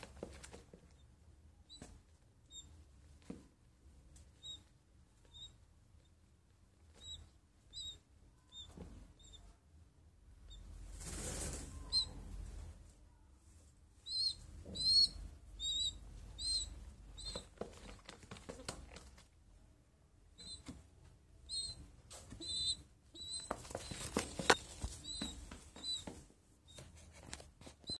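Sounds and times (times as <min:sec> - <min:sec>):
young pigeons peeping: 0:00.0 - 0:09.6, 0:10.3 - 0:12.8, 0:14.0 - 0:19.5, 0:20.2 - 0:28.0.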